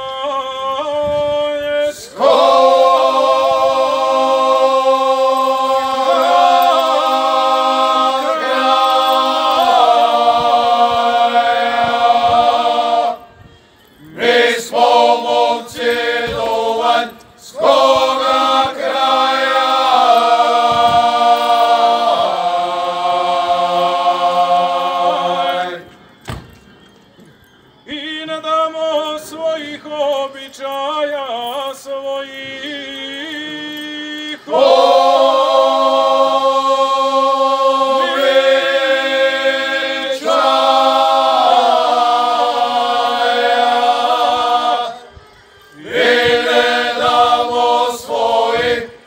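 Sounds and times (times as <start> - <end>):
group of men singing folk song: 0.0 - 13.3, 14.0 - 26.2, 27.9 - 49.0.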